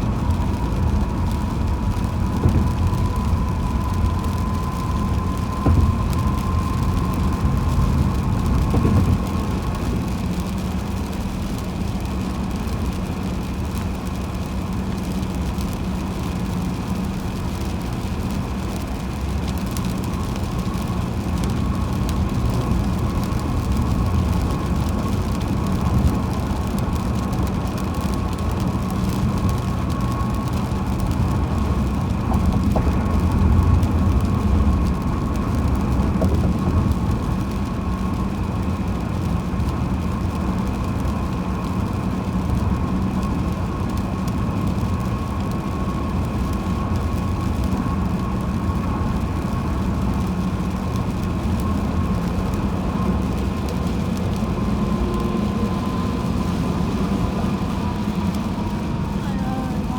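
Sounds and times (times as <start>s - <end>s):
car road noise rumble: 0.0s - 59.9s.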